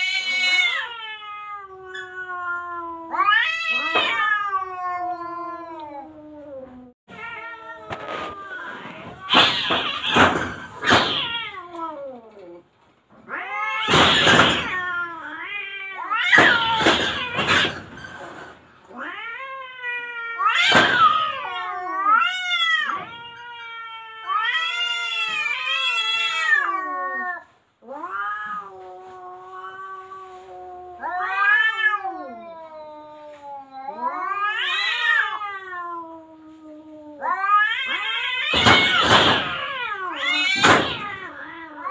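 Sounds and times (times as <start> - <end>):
cats yowling: 0.0 - 18.2, 18.8 - 41.9
cats hissing and spitting: 0.0 - 41.9.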